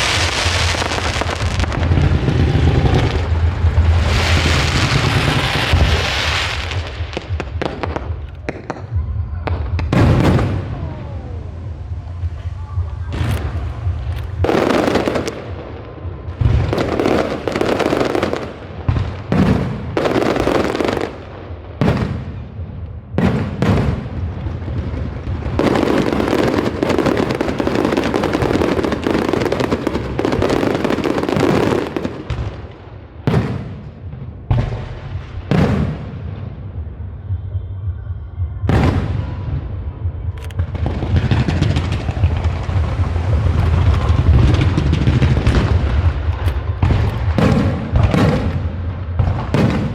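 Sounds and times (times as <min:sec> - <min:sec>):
dense crackling firework bursts: 0:00.0 - 0:36.5, 0:40.5 - 0:49.9.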